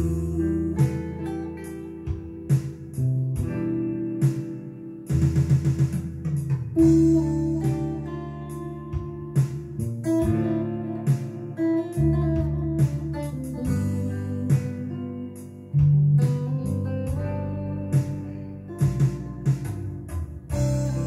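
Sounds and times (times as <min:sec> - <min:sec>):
electric guitar melody: 0:00.0 - 0:21.0
low held notes: 0:00.0 - 0:21.0.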